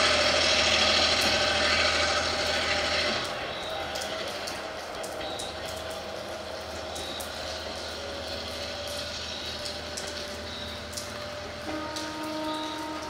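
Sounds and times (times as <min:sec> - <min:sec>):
low locomotive engine hum: 0:00.0 - 0:13.0
raindrops tapping: 0:00.0 - 0:13.0
steady rain: 0:00.0 - 0:13.0.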